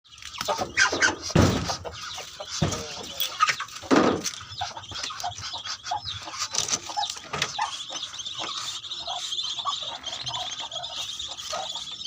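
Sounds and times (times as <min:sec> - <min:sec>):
ducklings peeping: 0:00.1 - 0:12.0.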